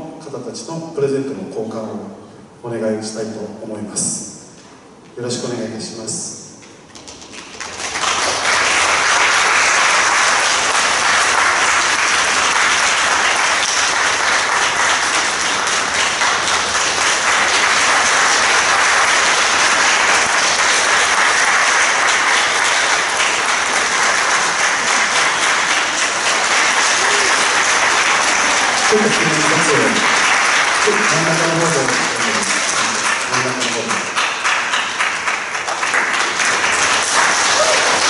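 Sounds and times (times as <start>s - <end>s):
audience applauding: 6.9s - 38.0s.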